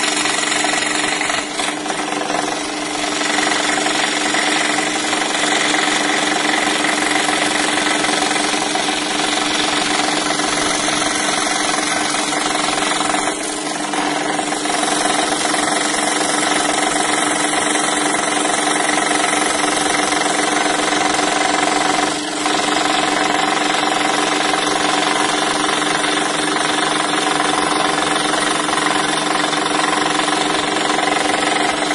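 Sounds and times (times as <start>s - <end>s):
scroll saw cutting plywood: 0.0s - 31.9s.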